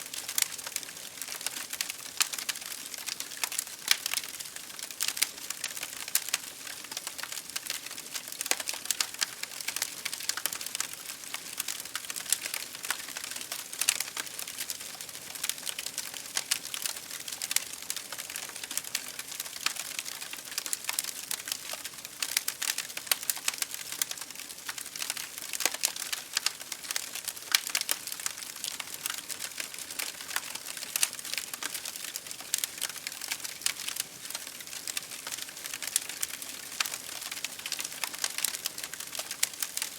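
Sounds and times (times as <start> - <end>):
wood fire crackling: 0.0 - 39.9
rain against a window: 0.1 - 39.9.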